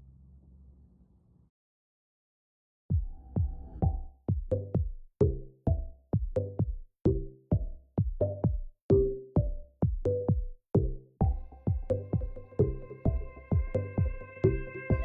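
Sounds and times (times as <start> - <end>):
drum machine beat: 2.9 - 15.0.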